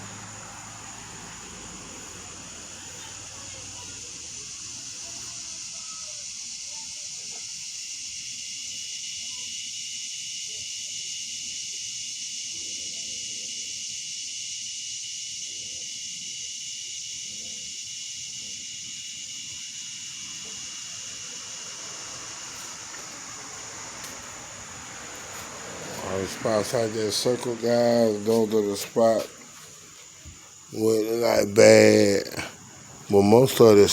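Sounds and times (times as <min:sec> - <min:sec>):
steady high-pitched hiss: 0:00.0 - 0:33.9.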